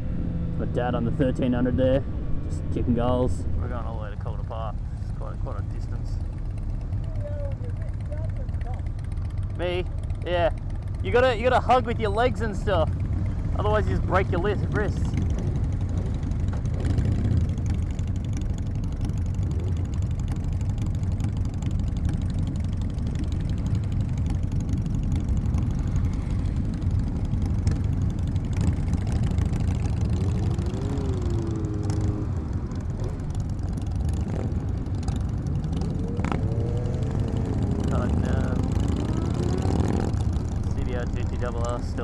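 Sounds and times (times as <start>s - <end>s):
motorcycle engines droning: 0.0s - 42.0s.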